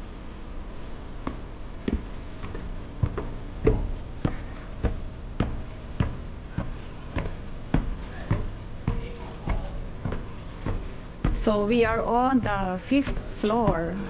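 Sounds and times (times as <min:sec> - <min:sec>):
footsteps on hard surface: 0:01.2 - 0:14.0.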